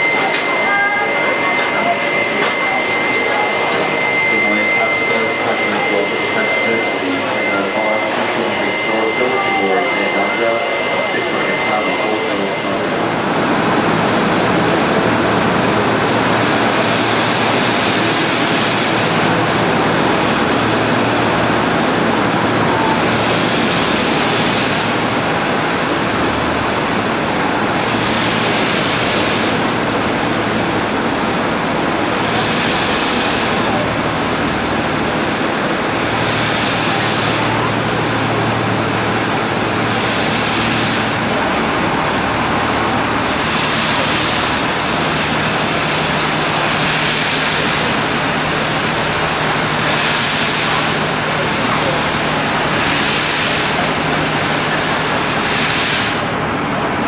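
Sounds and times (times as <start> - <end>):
steam locomotive steam hissing: 0.0 - 13.7, 16.0 - 57.0.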